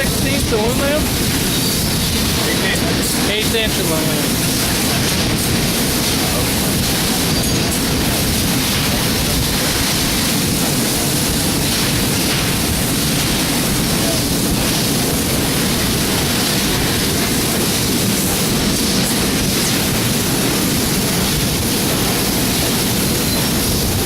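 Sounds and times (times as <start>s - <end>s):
laser cutting machine hissing: 0.0s - 24.0s.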